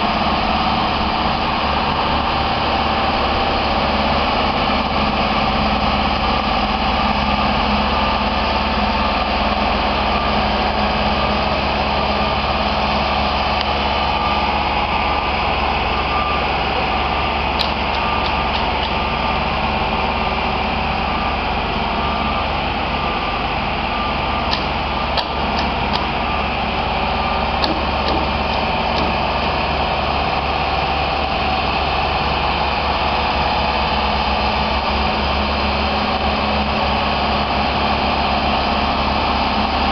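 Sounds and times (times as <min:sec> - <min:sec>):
boom lift engine running: 0:00.0 - 0:39.9.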